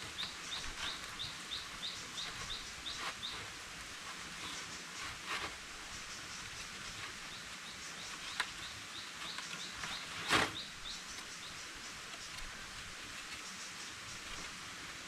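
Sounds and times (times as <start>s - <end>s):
insect hiss: 0.0s - 15.0s.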